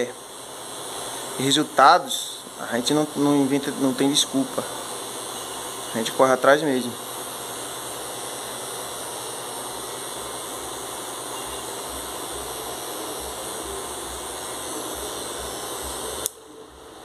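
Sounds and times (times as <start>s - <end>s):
electric hair clipper buzzing: 2.6s - 16.5s.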